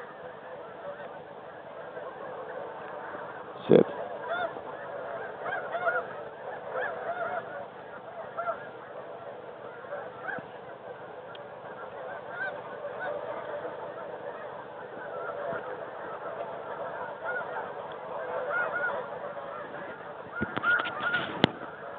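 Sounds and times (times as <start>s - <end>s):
flock of geese honking: 0.0s - 21.9s.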